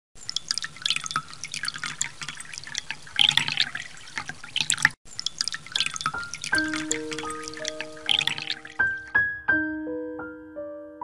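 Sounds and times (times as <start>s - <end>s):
raindrops falling into water: 0.2s - 9.2s.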